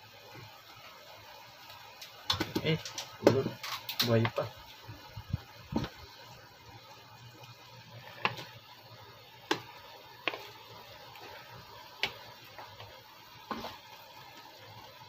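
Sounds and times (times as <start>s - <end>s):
sauce simmering: 0.0s - 15.0s.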